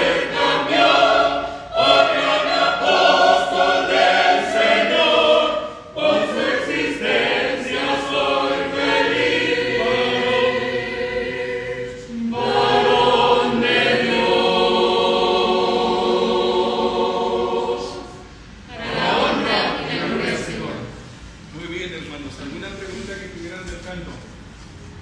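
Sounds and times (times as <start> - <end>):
choir singing held chords: 0.0 - 21.3.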